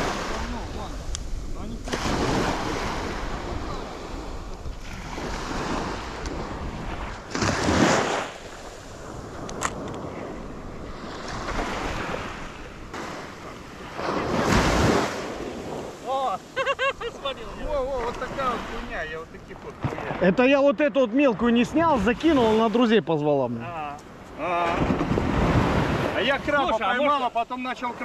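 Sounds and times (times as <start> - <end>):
wind on microphone: 0.0 - 20.5, 24.1 - 26.7
surf washing onto beach: 0.0 - 28.0.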